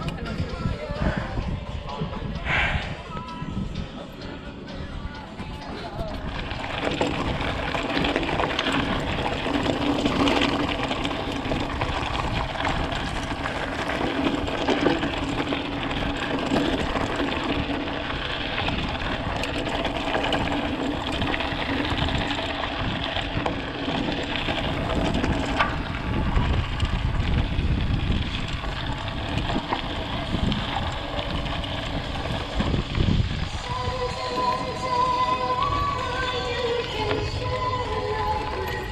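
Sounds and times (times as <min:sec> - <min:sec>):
wind rumbling on microphone: 0:00.0 - 0:38.9
bike tyres rolling on gravel: 0:04.9 - 0:38.9
bike knocks and rattles: 0:05.4 - 0:38.9.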